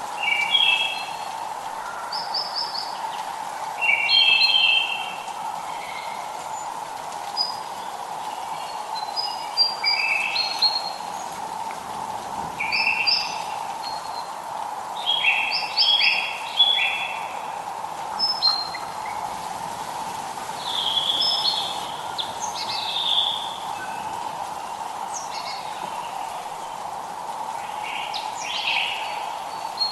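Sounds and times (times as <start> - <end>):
light rain hissing: 0.0 - 29.9
songbirds chirping: 0.0 - 29.9.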